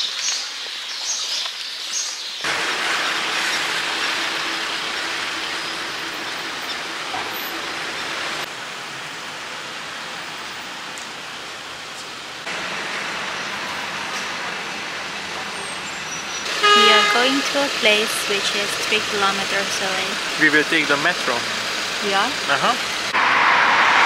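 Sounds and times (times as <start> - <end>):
city street traffic: 2.4 - 24.0.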